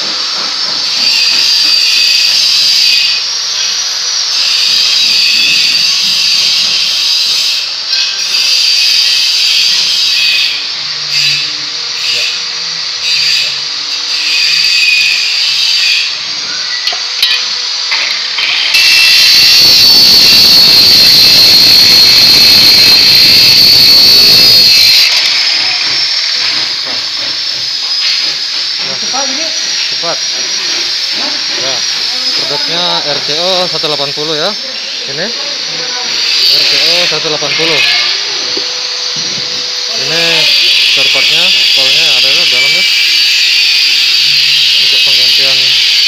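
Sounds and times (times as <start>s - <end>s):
cut-off saw grinding steel: 0.0s - 46.0s.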